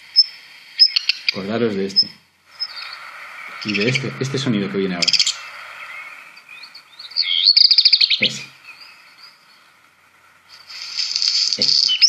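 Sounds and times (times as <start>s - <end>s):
bird song with whistles and crackle: 0.0s - 12.0s.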